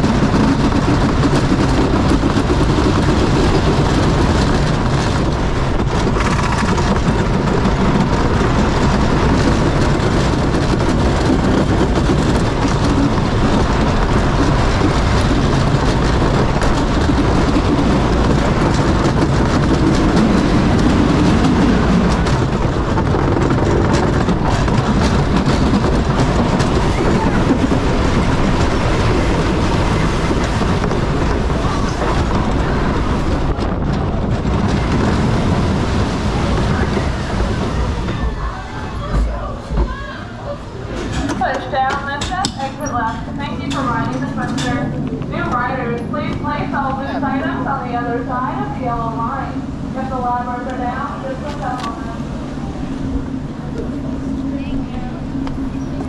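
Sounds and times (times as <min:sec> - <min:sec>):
roller coaster rumble and clatter: 0:00.0 - 0:56.0.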